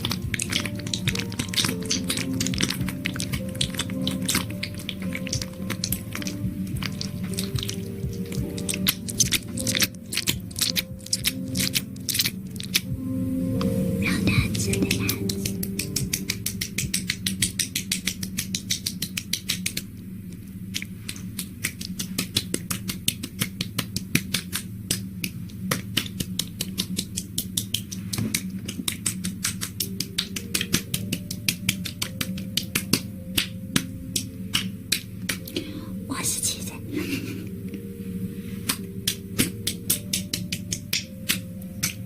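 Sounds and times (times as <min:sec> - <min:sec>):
wet sticky clicks: 0:00.0 - 0:12.9, 0:14.6 - 0:20.0, 0:20.7 - 0:35.6, 0:38.7 - 0:42.0.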